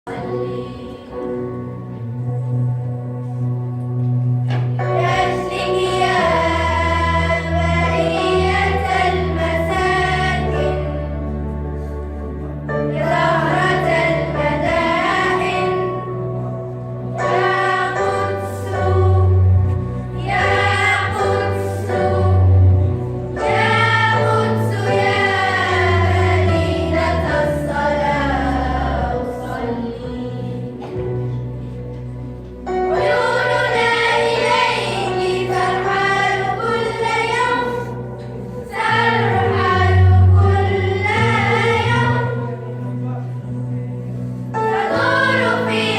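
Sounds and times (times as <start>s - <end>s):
children's choir singing: 0.1s - 2.4s, 4.5s - 11.6s, 12.4s - 31.7s, 32.6s - 42.9s, 44.6s - 45.9s.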